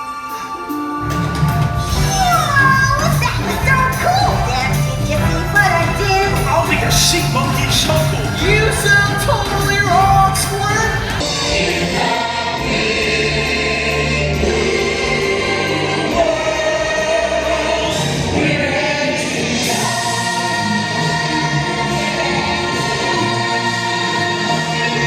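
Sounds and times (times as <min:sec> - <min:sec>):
backing music: 0:00.0 - 0:25.0
ensemble singing in chorus: 0:00.1 - 0:25.0.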